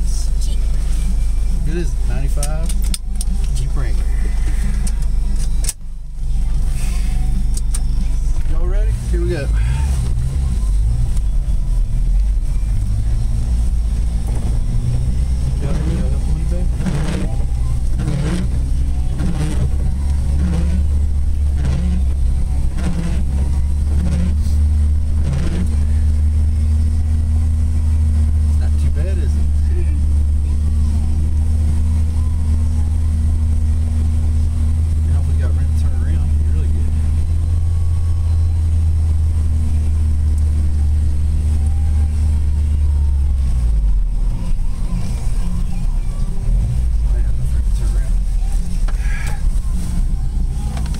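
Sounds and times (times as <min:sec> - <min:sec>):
vehicle engine droning: 0:00.0 - 0:50.9.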